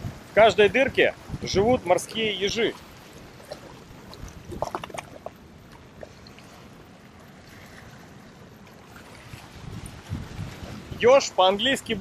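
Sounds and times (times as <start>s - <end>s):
sea water washing over rocks: 0.0s - 12.0s.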